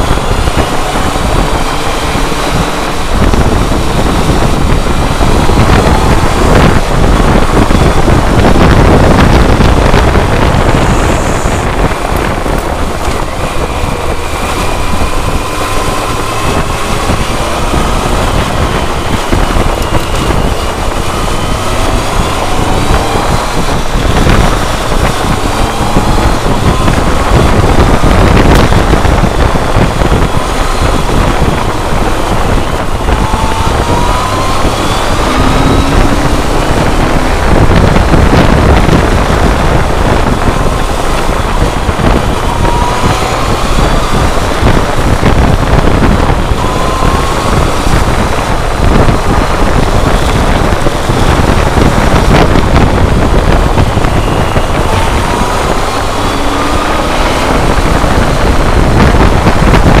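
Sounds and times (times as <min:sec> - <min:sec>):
motorcycle engine at road speed: 0:00.0 - 1:00.0
wind noise on microphone: 0:00.0 - 1:00.0.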